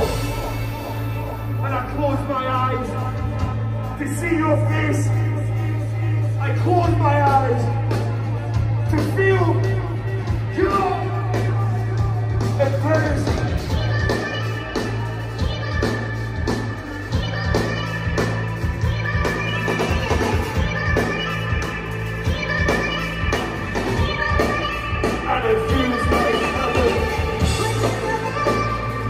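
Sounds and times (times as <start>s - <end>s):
bass guitar: 0.0s - 29.0s
drums: 0.0s - 29.0s
synthesiser: 0.0s - 29.0s.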